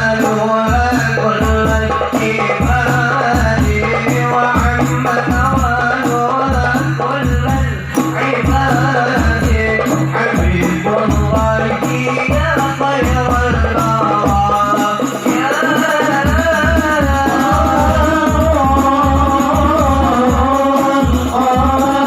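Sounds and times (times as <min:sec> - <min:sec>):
rattle-like percussion: 0:00.0 - 0:22.0
steady low drum beat: 0:00.0 - 0:22.0.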